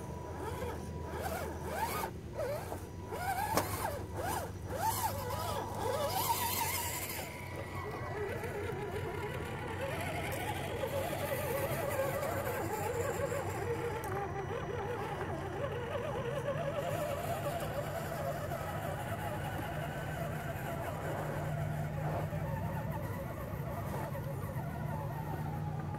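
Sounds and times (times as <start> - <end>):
toy truck motors and gears whining: 0.0 - 25.9.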